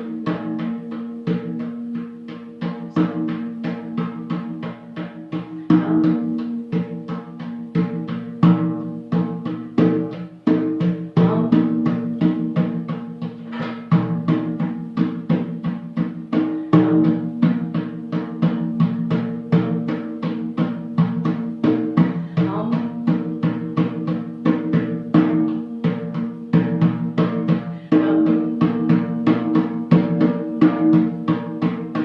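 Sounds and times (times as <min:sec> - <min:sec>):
pitched drum strikes: 0:00.0 - 0:32.0.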